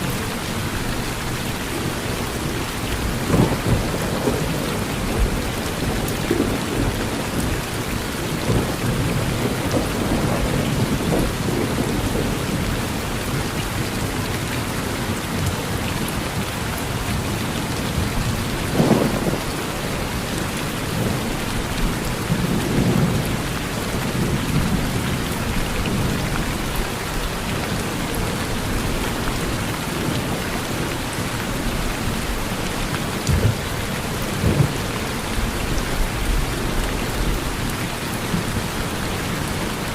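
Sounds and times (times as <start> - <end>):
low thunder rumbling: 0.0 - 16.4, 17.0 - 26.8, 27.6 - 37.7
rain falling on a porch: 0.0 - 39.9.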